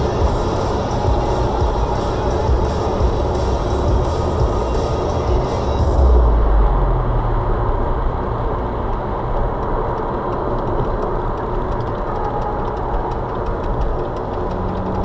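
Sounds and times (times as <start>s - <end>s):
car engine: 0.0s - 15.0s
tyre and wind road noise: 0.0s - 15.0s.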